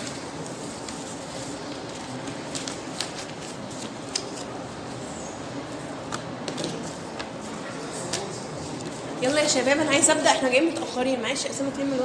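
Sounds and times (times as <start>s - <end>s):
classroom room noise: 0.0s - 12.0s.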